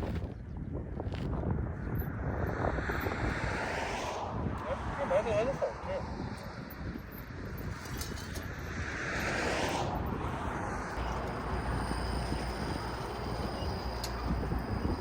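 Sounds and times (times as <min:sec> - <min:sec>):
steady low rumble: 0:00.0 - 0:15.0
road vehicle passing: 0:02.0 - 0:15.0.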